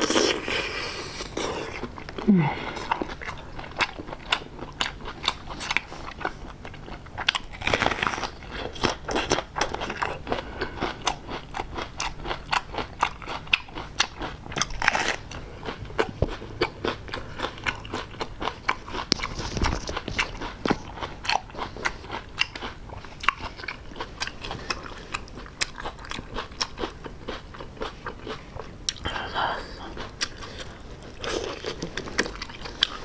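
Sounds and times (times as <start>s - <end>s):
food crunching: 0.0s - 33.0s
person chewing food: 0.0s - 33.0s.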